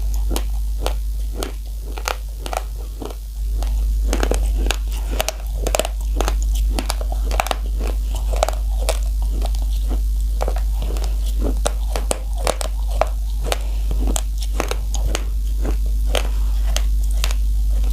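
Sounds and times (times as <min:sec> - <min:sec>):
crunching rice between teeth: 0:00.0 - 0:17.9
steady low hum: 0:00.0 - 0:17.9.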